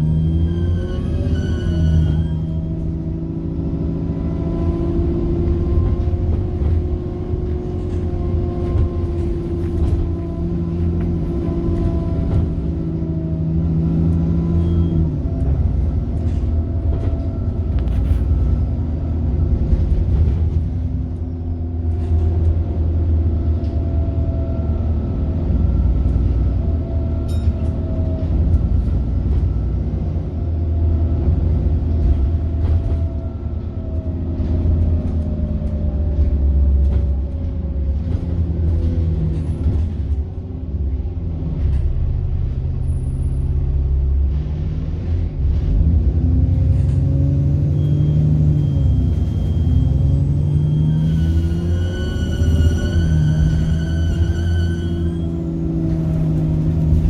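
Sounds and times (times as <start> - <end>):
bus engine rumbling: 0.0 - 57.0.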